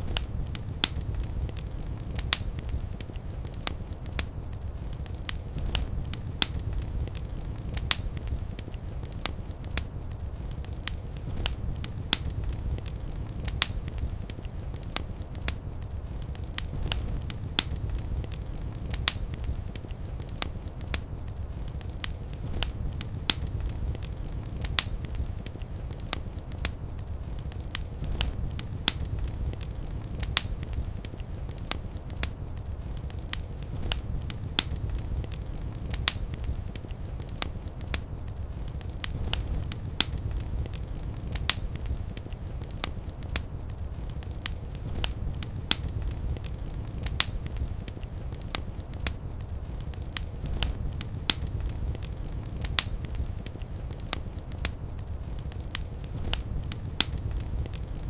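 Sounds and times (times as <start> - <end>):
fire crackling and popping: 0.0 - 58.0
flames rumbling: 0.0 - 58.0.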